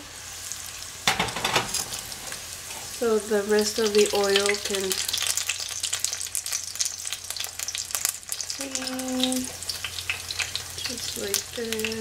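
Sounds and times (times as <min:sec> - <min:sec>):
tacos sizzling in hot oil: 0:00.0 - 0:12.0.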